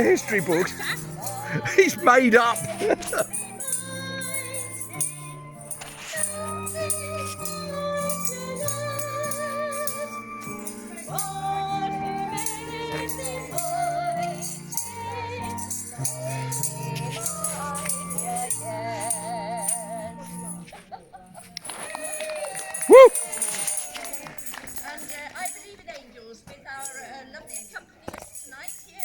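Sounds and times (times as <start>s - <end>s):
person singing with vibrato: 0.0s - 20.7s, 22.0s - 25.1s
shaker rattling: 0.0s - 20.8s, 21.4s - 25.9s, 26.7s - 29.0s.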